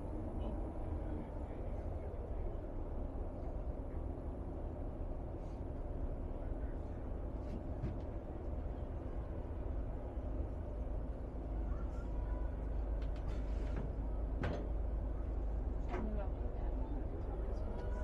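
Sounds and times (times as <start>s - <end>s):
boat engine rumble: 0.0s - 18.0s.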